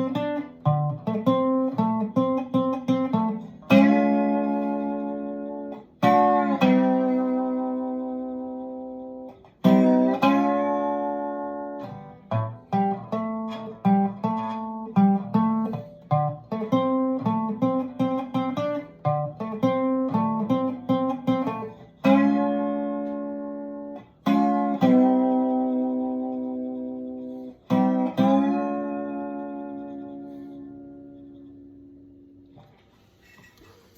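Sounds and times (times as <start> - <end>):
guitar chords ringing: 0.0 - 32.8
picked guitar notes: 0.0 - 33.9.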